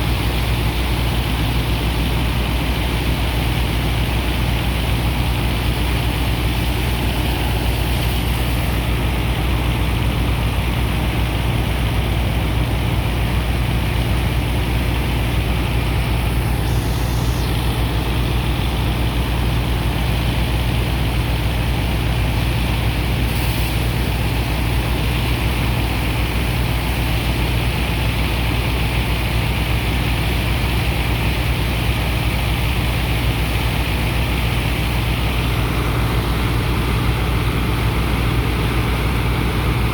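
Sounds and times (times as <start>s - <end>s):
continuous rushing noise: 0.0s - 39.9s
engines and pump droning: 0.0s - 39.9s.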